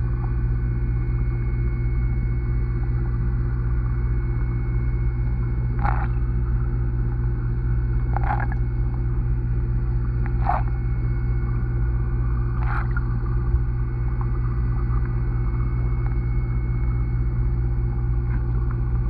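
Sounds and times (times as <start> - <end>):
low hum of held tones: 0.0 - 19.0.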